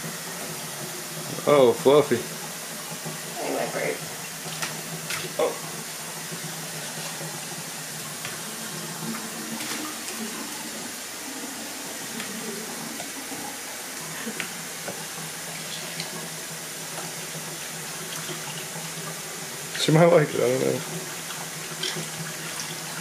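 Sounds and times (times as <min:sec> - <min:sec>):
running water: 0:00.0 - 0:23.0
faint water splashes: 0:03.2 - 0:23.0.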